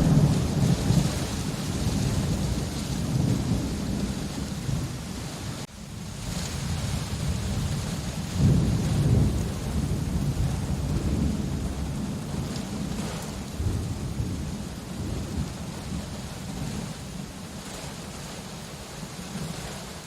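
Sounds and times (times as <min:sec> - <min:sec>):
thunder rumbling: 0:00.0 - 0:17.6
rain falling: 0:00.0 - 0:20.0.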